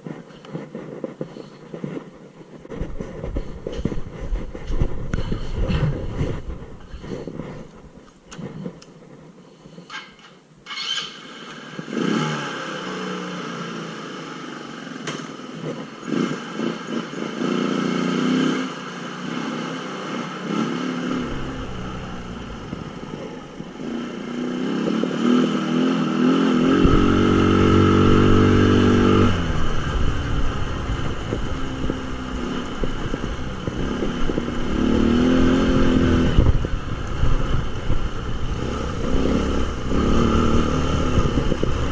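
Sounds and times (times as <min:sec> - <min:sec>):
atv engine running: 0:00.0 - 0:08.7, 0:11.1 - 0:41.9.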